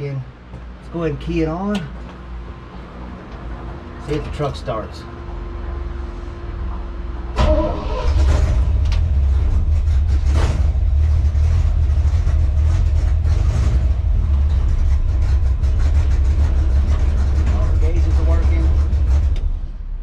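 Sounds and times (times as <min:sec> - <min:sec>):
engine cranking and idling: 0:03.4 - 0:20.0.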